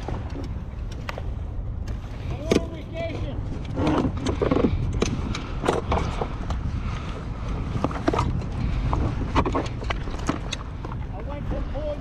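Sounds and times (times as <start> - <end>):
clicks and knocks in kayak: 0.0 - 11.3
wind rumble on microphone: 0.0 - 12.0.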